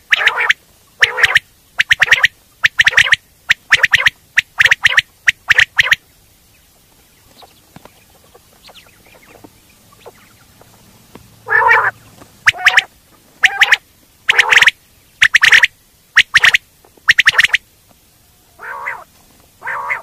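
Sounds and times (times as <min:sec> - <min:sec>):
quail calling: 0:00.0 - 0:10.8, 0:11.4 - 0:20.0.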